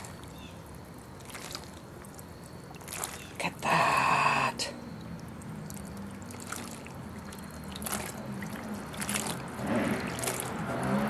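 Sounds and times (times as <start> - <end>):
low steady hum: 0.0 - 10.9
water splashing in a pot: 0.0 - 11.0.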